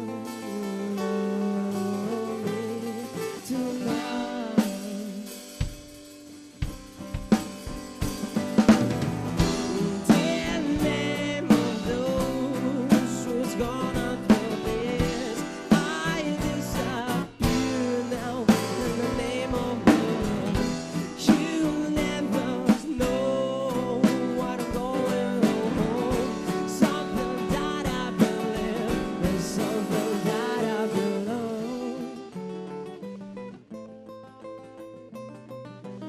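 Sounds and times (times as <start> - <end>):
person singing: 0.0 - 5.7, 9.4 - 33.4
drum kit: 0.0 - 32.9
guitars: 0.0 - 36.0.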